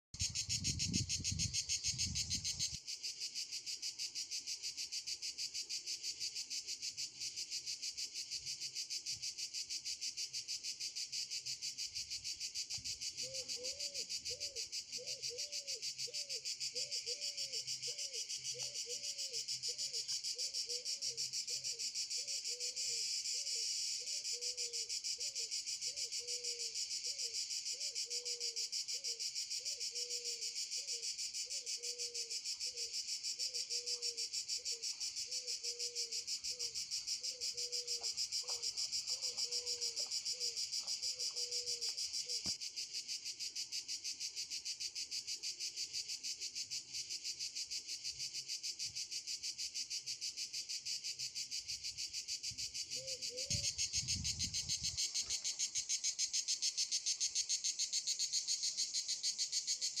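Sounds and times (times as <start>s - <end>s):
cicadas buzzing: 0.2s - 60.0s.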